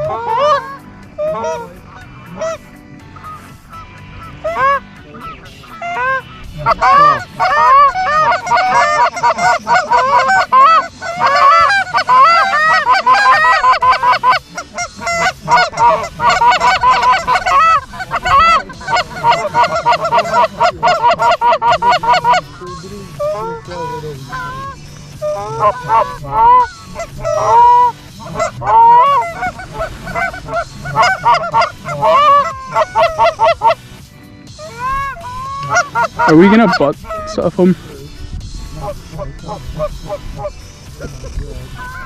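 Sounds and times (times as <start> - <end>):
geese honking: 0.0 - 42.0.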